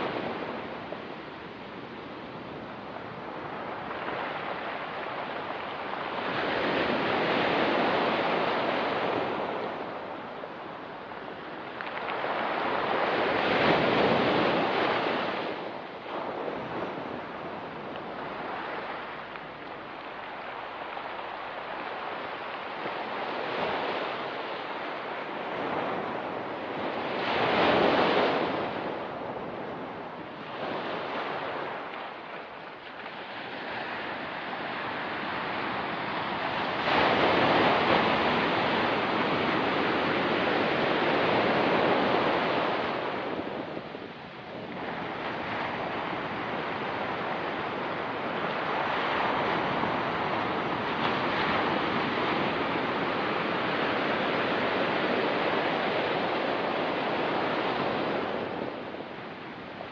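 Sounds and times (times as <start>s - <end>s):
waves breaking on rocky beach: 0.0s - 59.9s.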